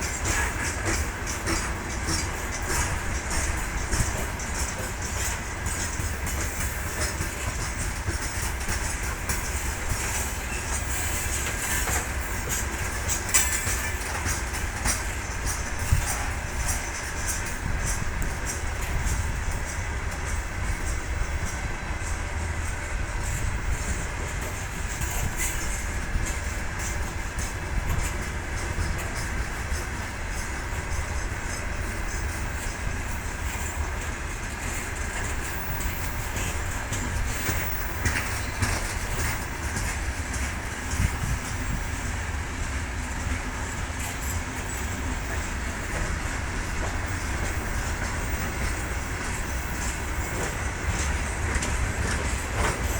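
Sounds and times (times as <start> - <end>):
freight train rumbling past: 0.0 - 52.9
wheels clicking over rail joints: 0.0 - 52.9.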